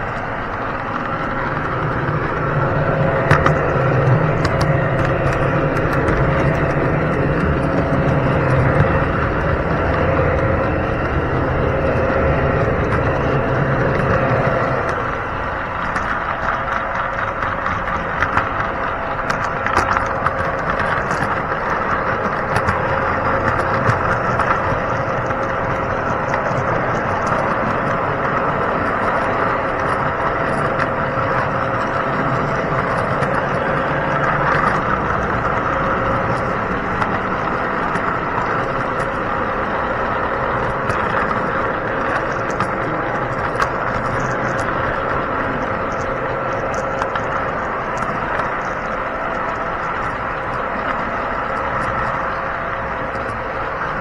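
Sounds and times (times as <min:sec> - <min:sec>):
model train rolling rumble: 0:00.0 - 0:54.0
sharp track clicks: 0:00.0 - 0:54.0.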